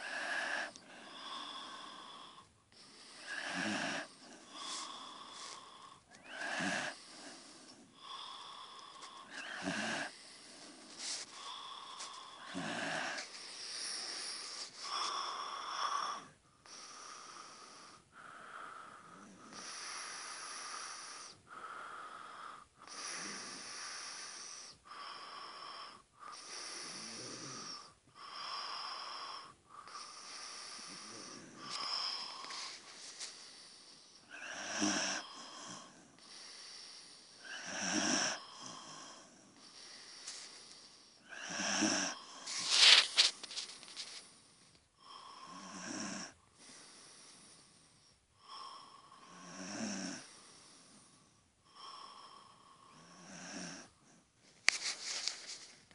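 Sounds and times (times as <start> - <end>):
person snoring with wheeze: 0.0 - 44.4, 45.0 - 54.3.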